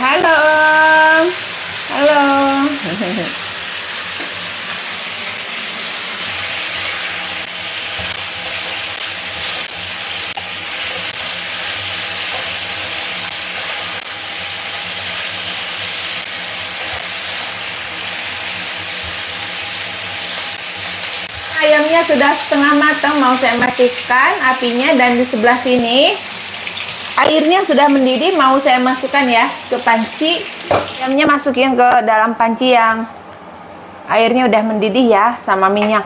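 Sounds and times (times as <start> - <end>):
chicken sizzling in frying pan: 0.0 - 31.2.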